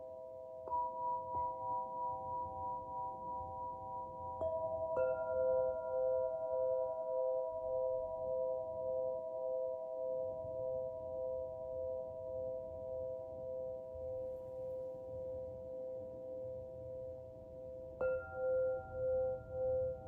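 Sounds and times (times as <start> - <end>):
crystal lyre ringing tones: 0.0 - 20.0.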